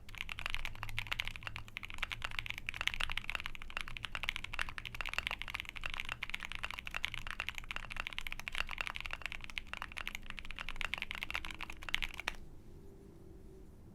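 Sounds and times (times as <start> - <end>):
fast typing on mechanical keyboard: 0.0 - 12.4.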